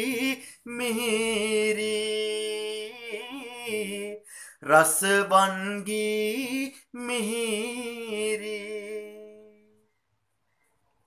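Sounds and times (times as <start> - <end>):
man singing unaccompanied: 0.0 - 9.9.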